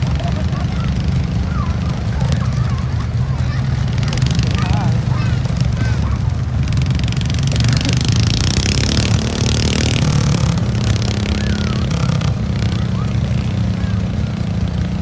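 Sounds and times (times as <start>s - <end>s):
tractor engine running hard: 0.0s - 15.0s.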